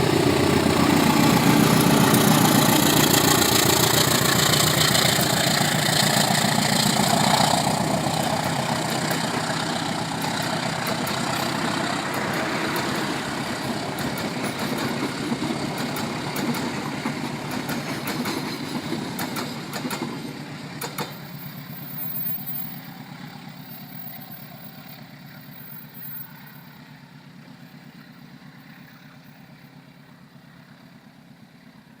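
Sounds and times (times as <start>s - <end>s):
diesel train departing: 0.0s - 32.0s.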